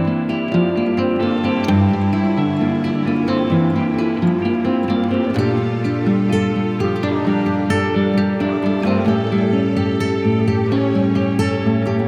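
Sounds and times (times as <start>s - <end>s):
plucked guitar-like music: 0.0s - 12.0s.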